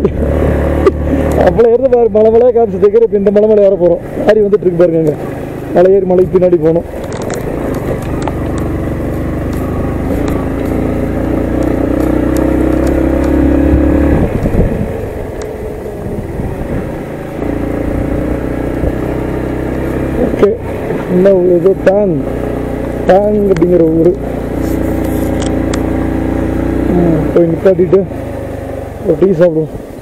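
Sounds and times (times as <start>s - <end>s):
motorcycle engine under throttle: 0.0s - 30.0s.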